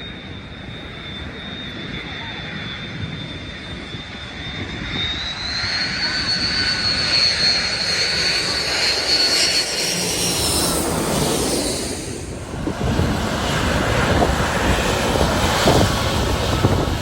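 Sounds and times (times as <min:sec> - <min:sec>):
jet engines spooling up: 0:00.0 - 0:17.0.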